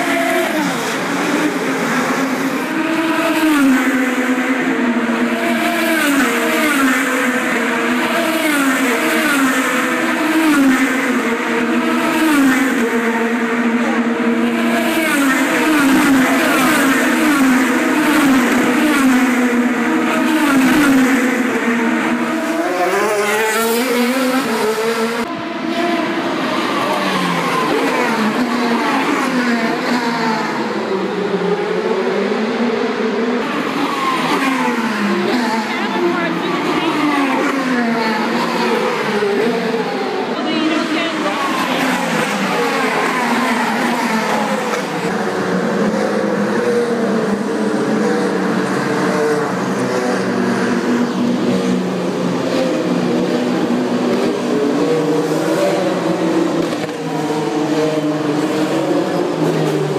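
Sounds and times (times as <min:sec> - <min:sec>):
race cars passing: 0:00.0 - 0:59.9.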